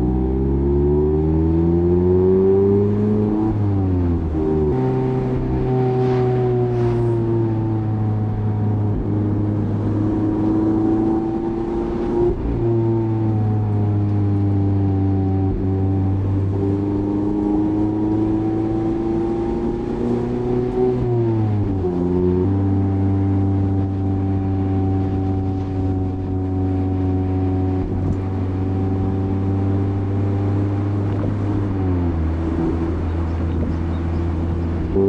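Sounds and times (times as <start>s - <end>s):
car engine cruising: 0.0s - 35.0s.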